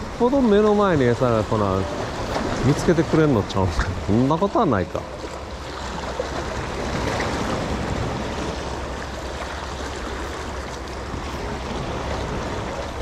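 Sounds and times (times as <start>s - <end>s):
waves splashing against rocks: 0.0s - 13.0s.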